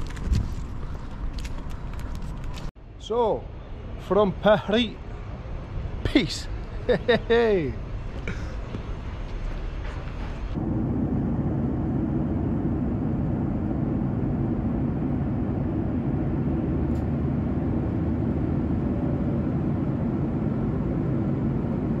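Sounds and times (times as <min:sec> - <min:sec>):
moving vehicle low rumble: 0:00.0 - 0:22.0.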